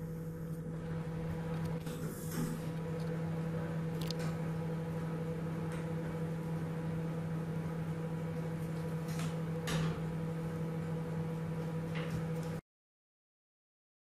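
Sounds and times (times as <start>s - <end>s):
microwave oven humming: 0.0s - 12.6s.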